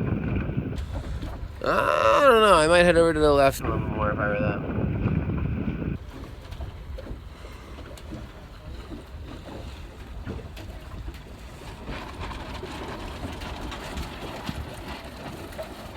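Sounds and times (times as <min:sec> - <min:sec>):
water splashing against hull: 0:00.0 - 0:15.9
wind buffeting microphone: 0:00.0 - 0:15.9.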